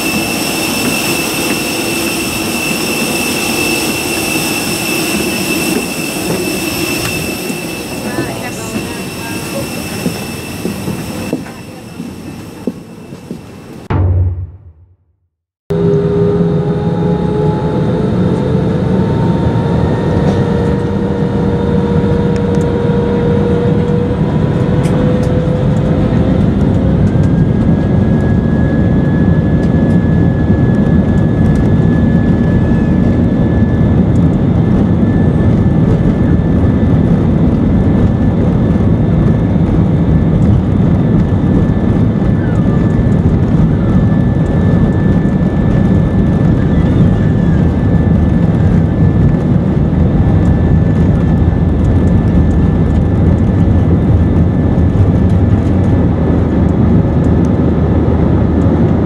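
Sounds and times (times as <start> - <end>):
jet engines at takeoff: 0.0 - 13.9, 15.7 - 59.0
high engine whine: 0.0 - 15.0, 15.7 - 59.0.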